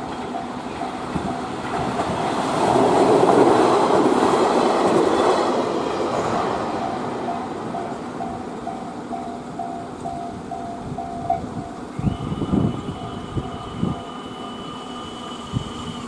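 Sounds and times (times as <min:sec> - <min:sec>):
crossing warning bell ringing: 0:00.0 - 0:16.0
train passing: 0:00.0 - 0:16.0.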